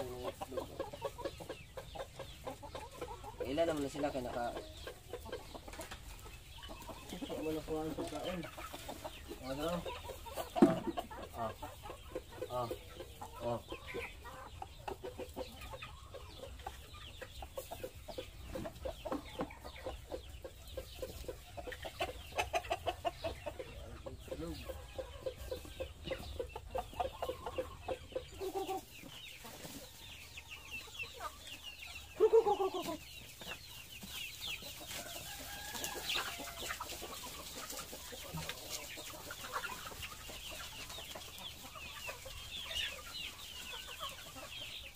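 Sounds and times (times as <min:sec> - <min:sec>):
hens and roosters clucking: 0:00.0 - 0:44.9.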